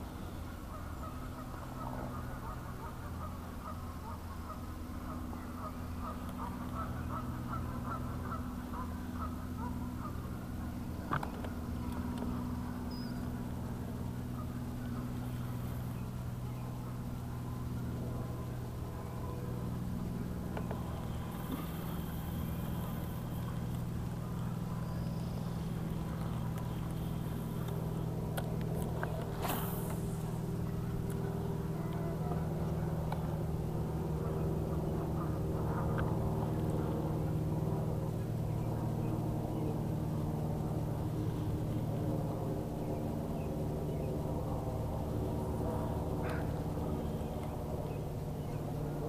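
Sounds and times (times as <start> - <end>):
motor humming: 0.0 - 49.0.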